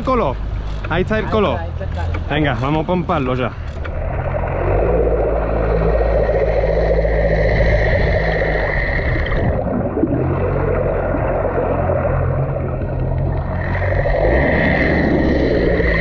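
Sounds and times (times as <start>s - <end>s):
boat engine running: 0.0s - 16.0s
high steady whine: 0.0s - 16.0s
water rushing along hull: 0.0s - 16.0s.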